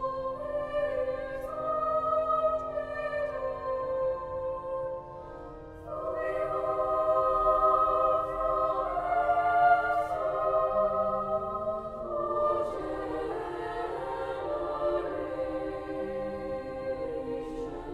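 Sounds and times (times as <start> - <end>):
choir singing sustained notes: 0.0 - 17.9.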